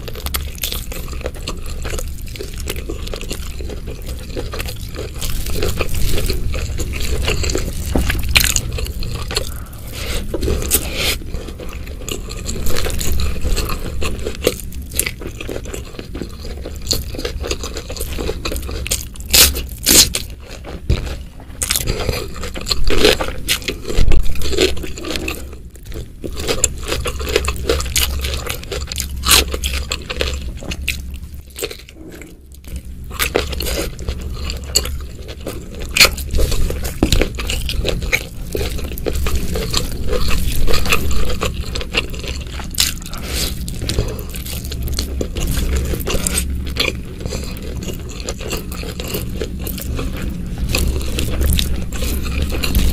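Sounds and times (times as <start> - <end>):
crunching raw vegetables: 0.0 - 52.9
fingers scraping through food: 0.0 - 52.9
wet chewing: 0.0 - 52.9.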